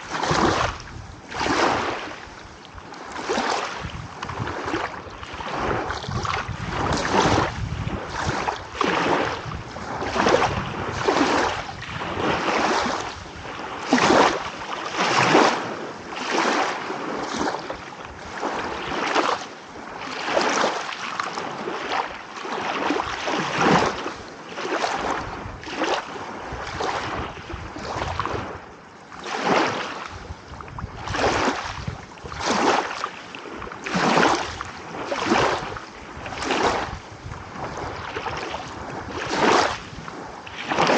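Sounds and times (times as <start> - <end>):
small waves lapping and splashing: 0.0 - 40.9.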